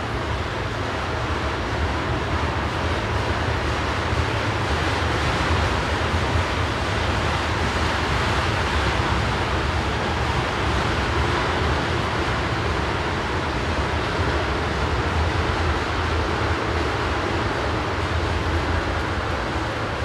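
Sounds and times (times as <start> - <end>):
locomotive engine rumble: 0.0 - 20.0.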